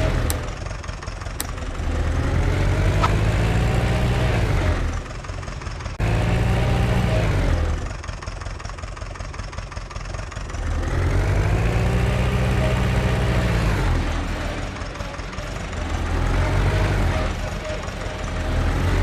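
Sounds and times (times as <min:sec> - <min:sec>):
tractor engine revving: 0:00.0 - 0:08.2, 0:10.4 - 0:19.0.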